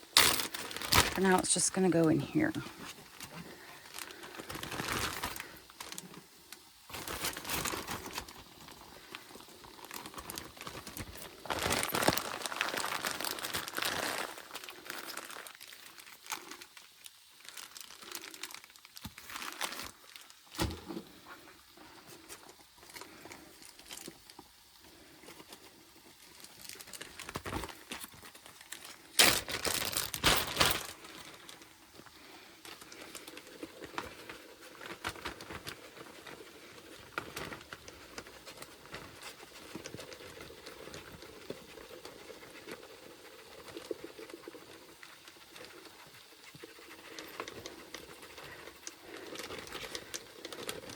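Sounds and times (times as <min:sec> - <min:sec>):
plastic bag crinkling: 0:00.0 - 0:20.6, 0:21.4 - 0:50.9.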